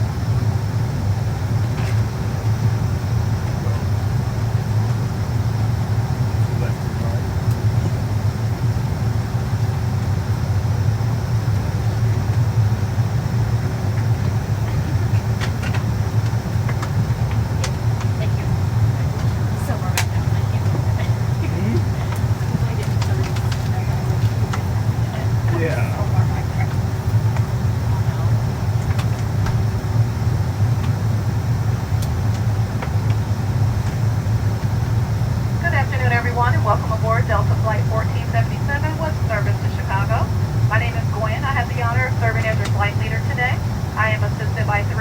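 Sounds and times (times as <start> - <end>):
airplane cabin drone: 0.0 - 45.0.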